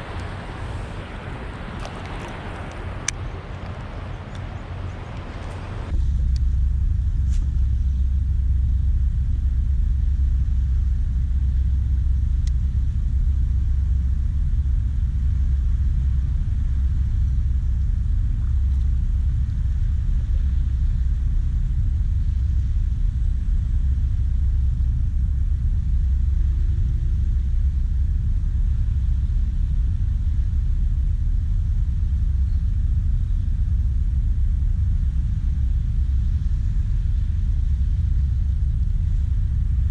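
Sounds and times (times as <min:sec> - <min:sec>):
loud low rumble: 0:00.0 - 0:39.9.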